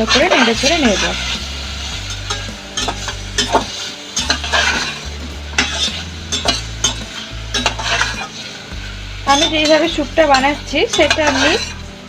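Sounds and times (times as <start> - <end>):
chicken sizzling in a pan: 0.0 - 12.0
spatula scraping a pan: 0.0 - 12.0.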